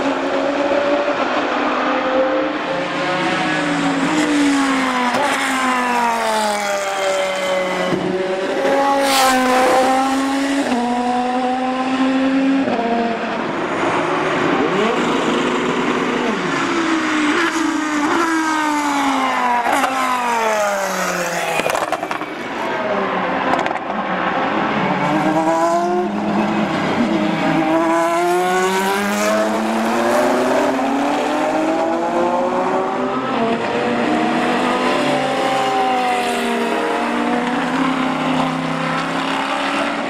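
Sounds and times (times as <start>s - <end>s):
racing car engine at high revs: 0.0s - 40.0s.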